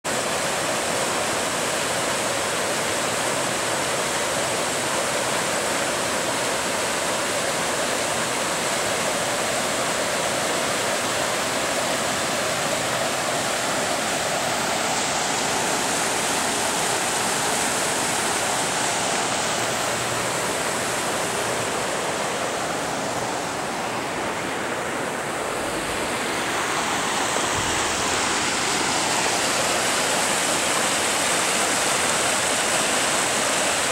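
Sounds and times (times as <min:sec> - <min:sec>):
river water rushing over weirs: 0:00.0 - 0:33.9.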